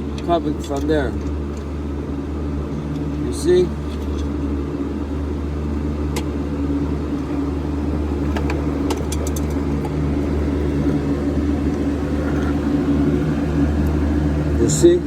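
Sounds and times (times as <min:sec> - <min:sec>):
minivan engine idling: 0:00.0 - 0:15.0.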